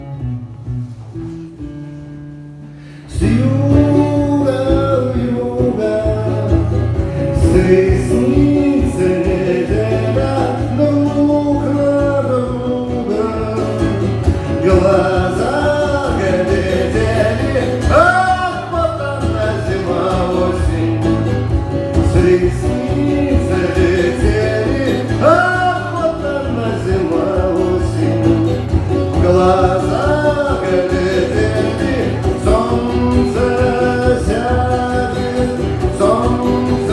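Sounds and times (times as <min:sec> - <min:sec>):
strummed acoustic guitar: 0:00.0 - 0:36.9
man singing: 0:03.0 - 0:36.9.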